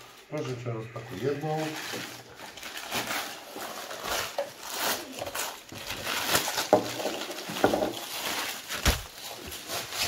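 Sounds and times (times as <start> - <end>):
tissue paper rustling and crinkling: 0.0 - 10.0.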